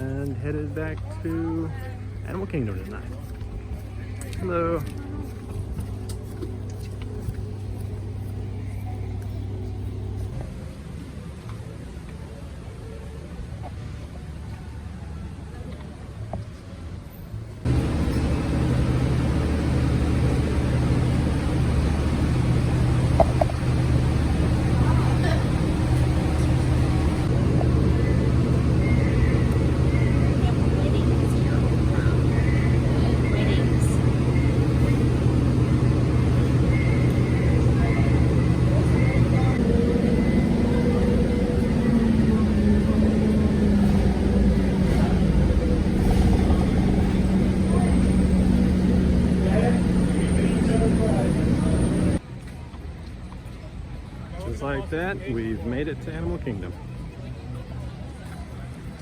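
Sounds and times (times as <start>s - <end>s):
vehicle engine humming: 0.0s - 52.4s
road noise: 0.0s - 59.0s.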